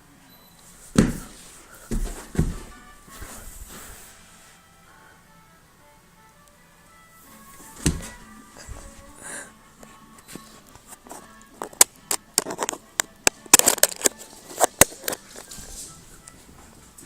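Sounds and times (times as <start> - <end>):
faint tv: 0.0 - 17.0.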